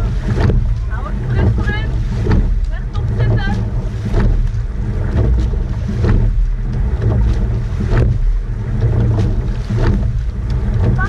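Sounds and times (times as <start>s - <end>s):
oars clunking and splashing: 0.0s - 11.0s
wind rumbling on microphone: 0.0s - 11.0s.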